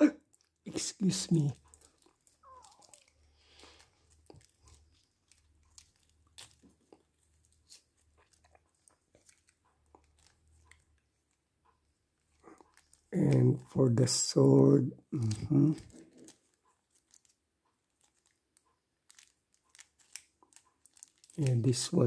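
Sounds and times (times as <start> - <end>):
plastic wrapping crinkling: 0.3 - 14.3, 15.2 - 22.0.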